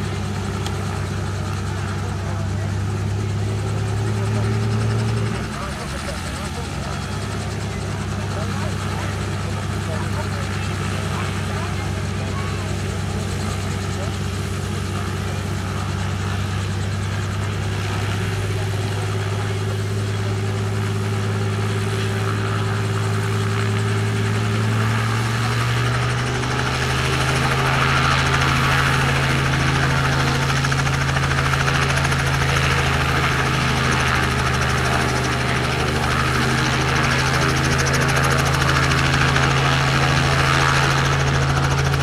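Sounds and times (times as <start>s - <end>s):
helicopter engine and rotor drone: 0.0s - 42.0s.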